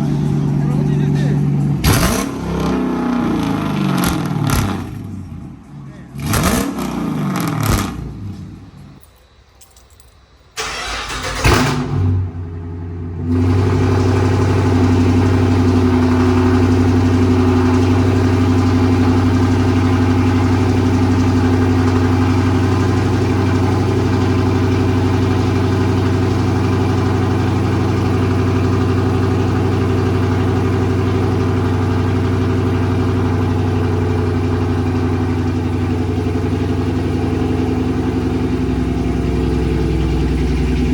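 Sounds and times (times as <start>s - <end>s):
loud car engine starting and idling: 0.0s - 9.0s, 10.5s - 40.9s.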